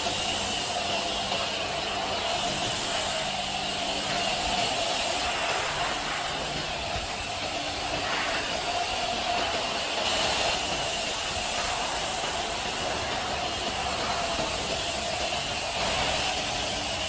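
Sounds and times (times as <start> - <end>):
pressure washer spraying water: 0.0 - 17.0.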